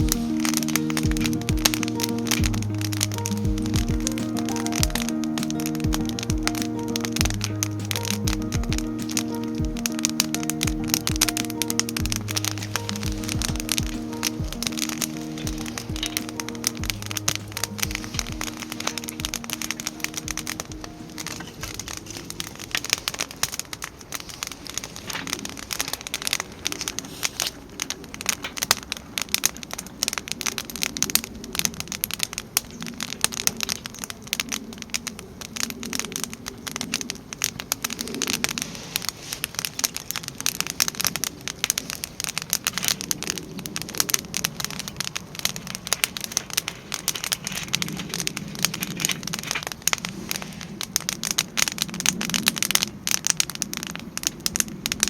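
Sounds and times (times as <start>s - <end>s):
flames rushing: 0.0s - 55.0s
wood fire crackling: 0.0s - 55.0s.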